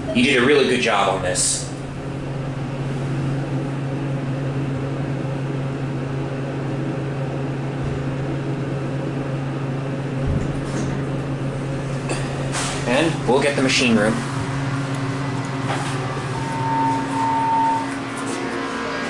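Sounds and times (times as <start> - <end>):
elevator machinery humming: 0.0 - 19.0.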